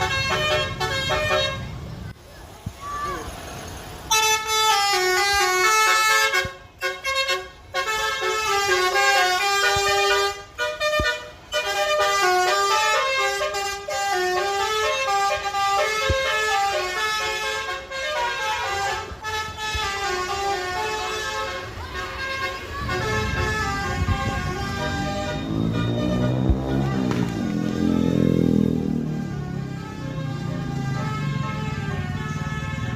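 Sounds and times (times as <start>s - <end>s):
musical air horn playing a tune: 0.0s - 1.6s, 4.1s - 32.9s.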